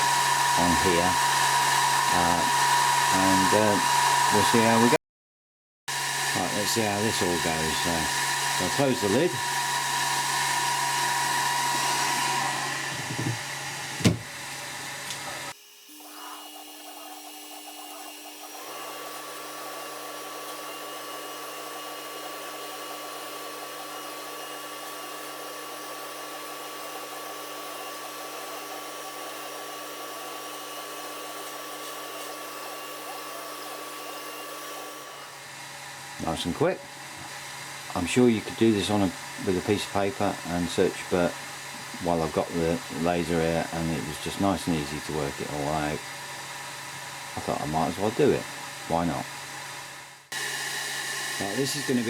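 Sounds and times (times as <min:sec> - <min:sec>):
laser engraver fan whir: 0:00.0 - 0:05.0, 0:05.9 - 0:52.0.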